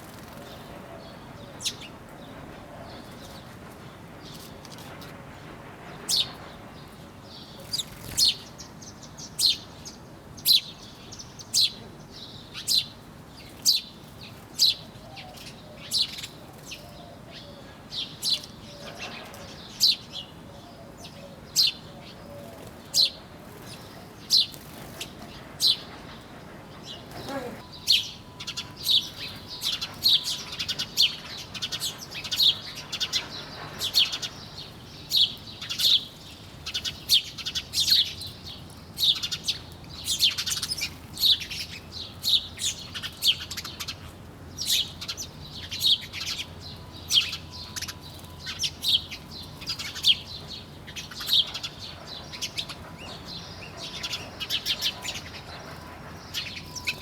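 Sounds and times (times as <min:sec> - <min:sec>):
small birds chirping: 0:06.1 - 0:57.0.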